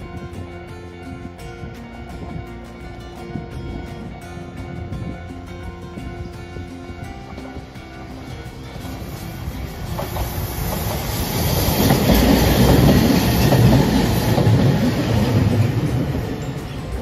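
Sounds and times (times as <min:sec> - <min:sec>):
tram wheels on rails: 0:00.0 - 0:17.0.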